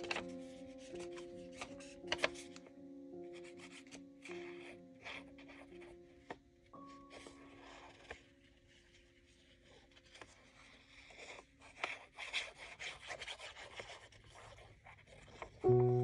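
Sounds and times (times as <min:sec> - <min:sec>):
faint background music: 0:00.0 - 0:16.0
paper rustling on a surface: 0:00.0 - 0:16.0.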